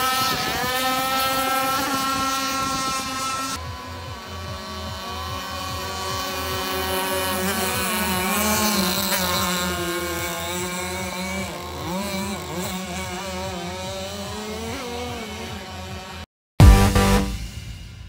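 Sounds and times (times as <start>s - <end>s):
model boat engines racing: 0.0s - 16.3s.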